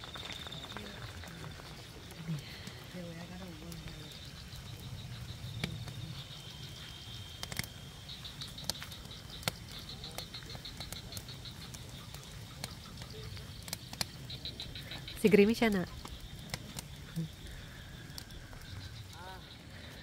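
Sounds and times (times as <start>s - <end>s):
drizzle drops ticking: 0.0s - 20.0s
frogs and insects trilling: 0.0s - 20.0s.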